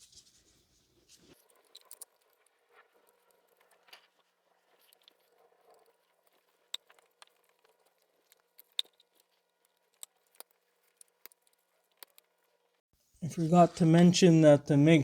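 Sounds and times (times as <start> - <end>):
soft plastic rustling: 0.0 - 13.6.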